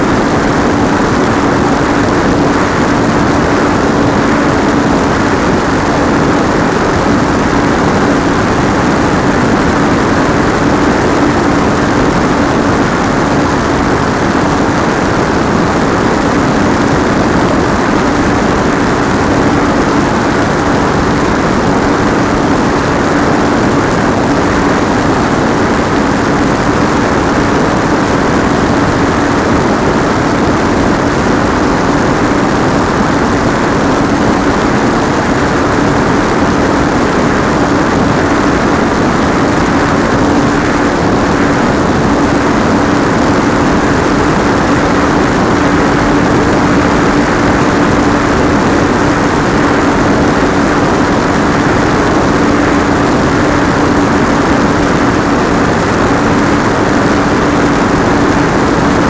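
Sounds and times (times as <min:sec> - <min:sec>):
model plane propeller humming: 0:00.0 - 0:59.0
rushing airflow: 0:00.0 - 0:59.0.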